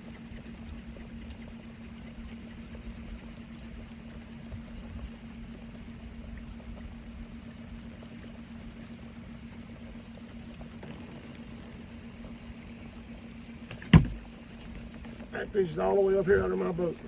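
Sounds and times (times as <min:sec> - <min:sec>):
boat motor humming: 0:00.0 - 0:17.0
rain patter: 0:00.0 - 0:17.0.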